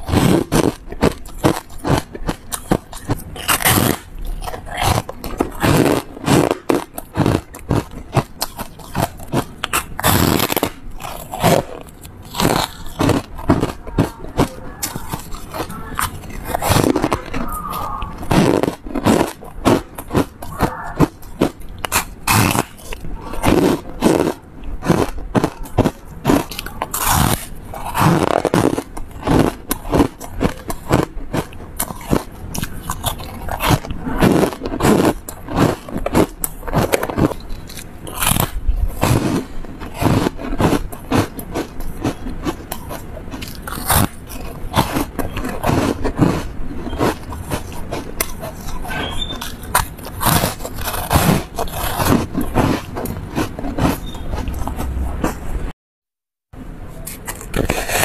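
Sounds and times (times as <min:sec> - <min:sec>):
ice crunching and chewing: 0:00.0 - 0:55.7, 0:57.0 - 0:58.0.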